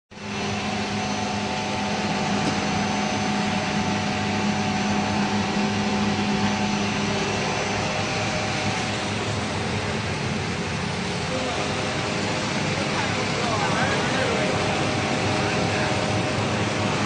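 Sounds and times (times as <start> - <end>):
production line machinery humming: 0.1 - 17.0.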